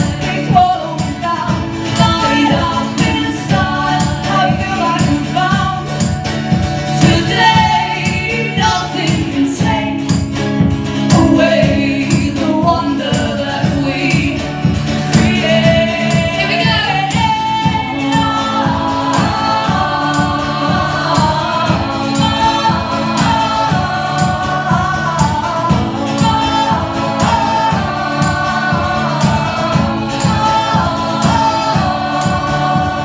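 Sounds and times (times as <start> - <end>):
pop-rock song with driving beat: 0.0 - 33.0
wordless sung vocals: 0.0 - 33.0.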